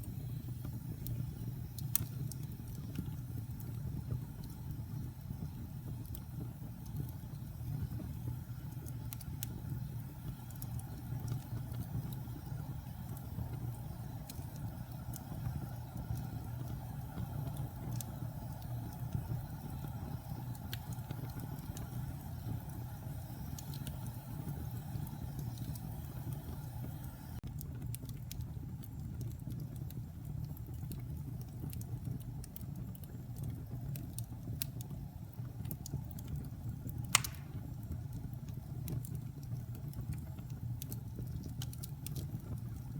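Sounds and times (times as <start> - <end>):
log fire crackling and popping: 0.0 - 42.9.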